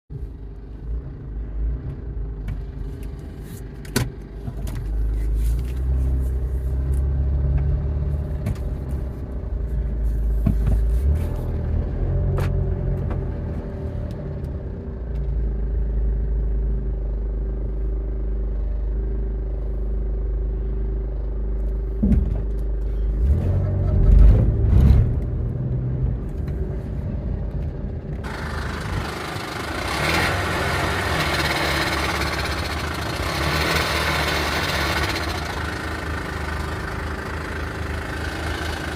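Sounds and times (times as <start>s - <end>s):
car engine rumbling: 0.1s - 38.9s.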